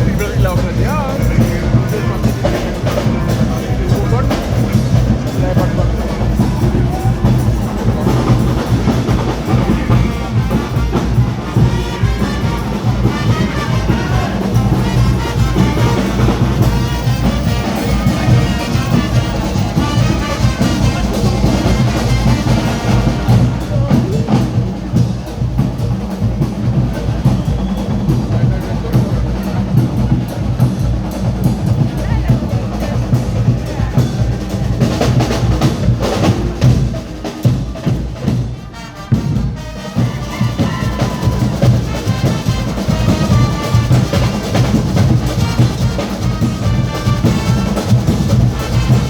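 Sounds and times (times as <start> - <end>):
carnival band brass and drums: 0.0 - 49.0.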